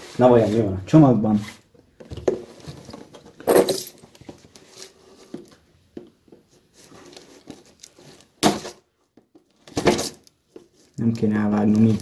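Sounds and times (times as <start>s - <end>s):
plastic rustling and scraping: 0.0s - 5.6s, 6.3s - 12.0s.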